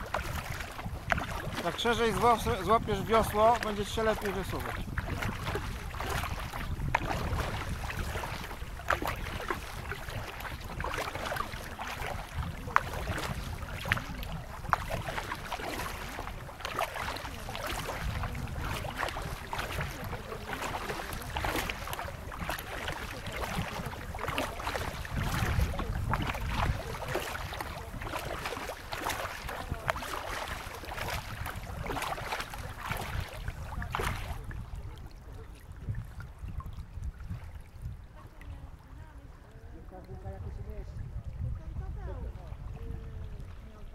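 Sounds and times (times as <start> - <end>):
paddle splashing in water: 0.0 - 43.9
wind rumble on microphone: 0.0 - 43.9.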